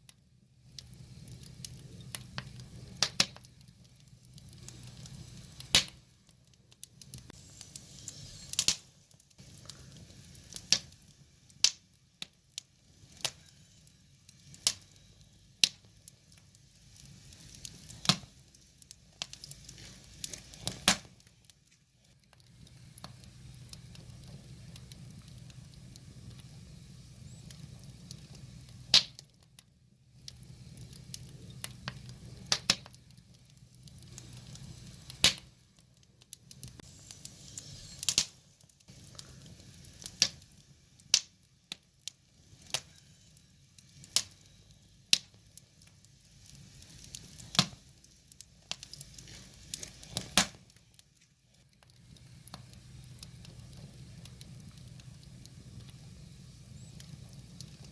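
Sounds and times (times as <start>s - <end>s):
logs crackling and popping: 0.0s - 57.9s
low steady fire hiss: 0.0s - 57.9s.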